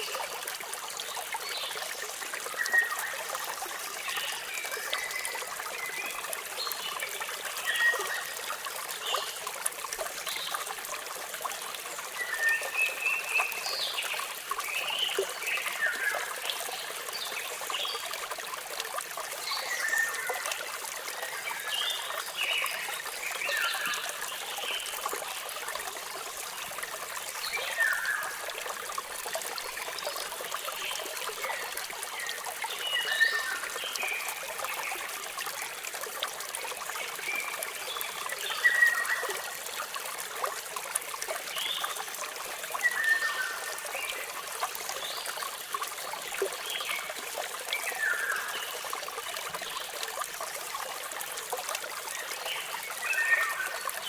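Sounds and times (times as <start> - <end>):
waterfall trickling: 0.0 - 54.0.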